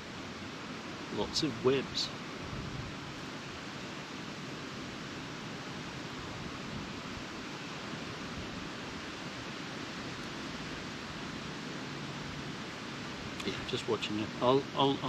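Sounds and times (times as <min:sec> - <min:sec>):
steady wind: 0:00.0 - 0:15.0.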